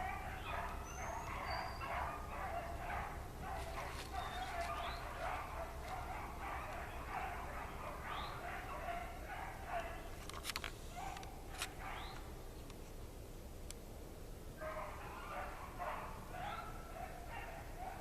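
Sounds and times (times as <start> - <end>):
beagles baying: 0.0 - 10.2, 10.9 - 12.4, 14.6 - 18.0.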